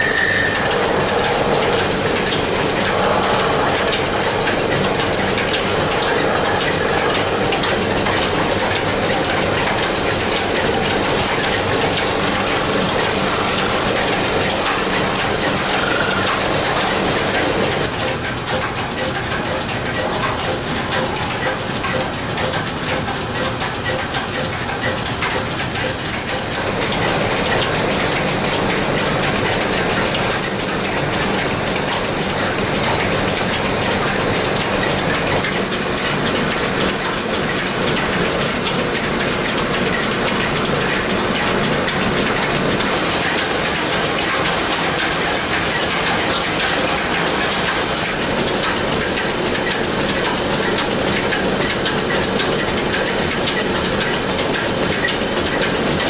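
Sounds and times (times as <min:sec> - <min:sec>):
wood lathe running: 0:00.0 - 0:18.0, 0:26.5 - 0:56.0.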